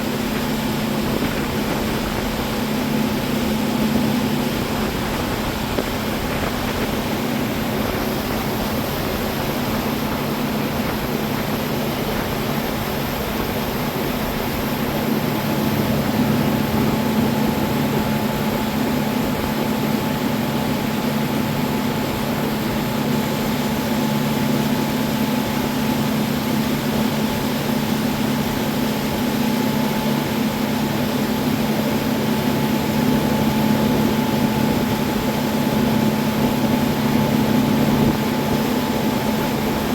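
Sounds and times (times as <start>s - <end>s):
boat motor humming: 0.0s - 39.9s
water wash: 0.0s - 39.9s.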